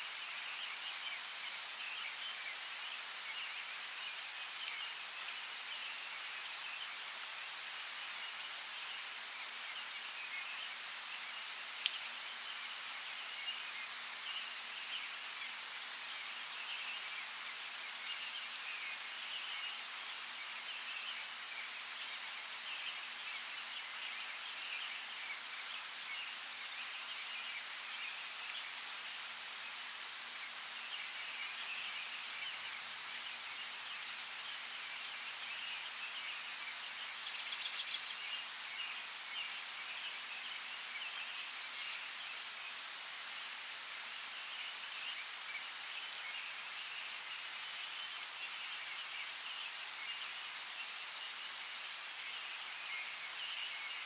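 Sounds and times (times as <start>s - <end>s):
steady rain: 0.0s - 54.0s
faint bird chirping: 0.1s - 54.0s.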